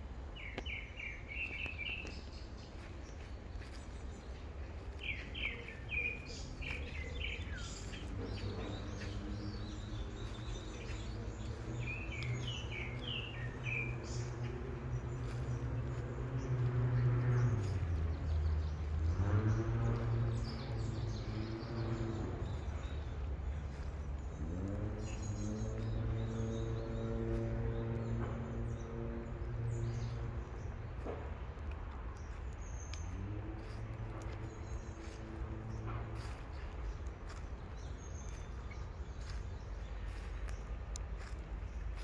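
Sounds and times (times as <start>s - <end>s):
low droning hum: 0.0s - 42.0s
songbirds chirping: 0.0s - 42.0s.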